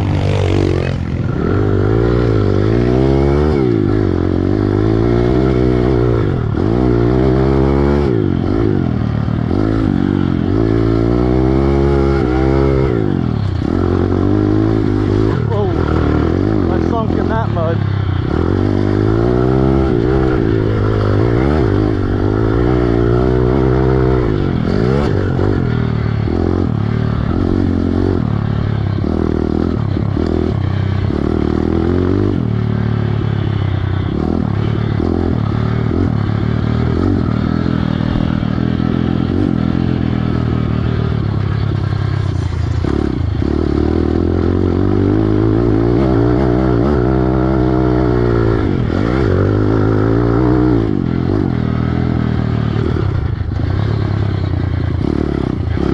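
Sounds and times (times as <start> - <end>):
motorbike engine revving: 0.0 - 55.9.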